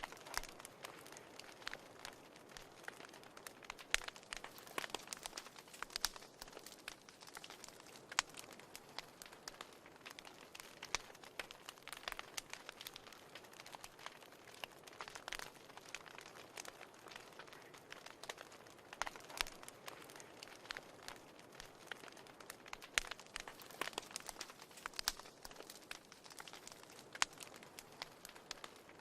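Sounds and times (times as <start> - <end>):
fire snapping and popping: 0.0 - 29.0
soft hiss of fire: 0.0 - 29.0.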